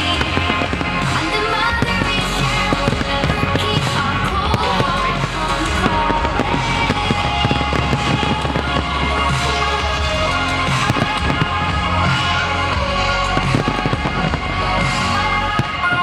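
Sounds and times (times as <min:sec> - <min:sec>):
fireworks bangs and crackles: 0:00.0 - 0:16.0
loud music: 0:00.0 - 0:16.0.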